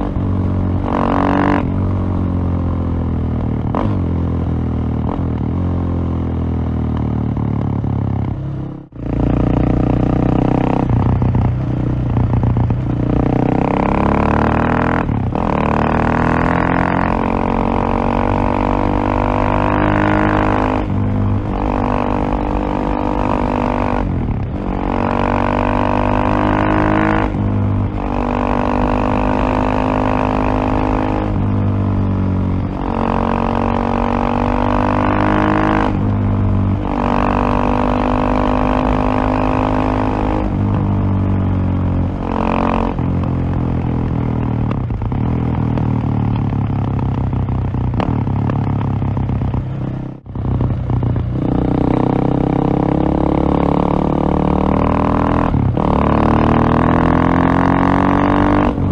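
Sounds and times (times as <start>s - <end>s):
motorcycle engine pulling hard: 7.2s - 58.9s.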